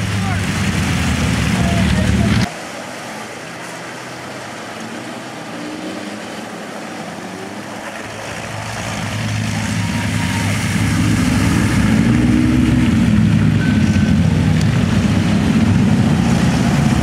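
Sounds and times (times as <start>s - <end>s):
close engine: 0.0s - 17.0s
distant truck engines: 0.0s - 17.0s
pickup truck engine approaching: 0.0s - 17.0s.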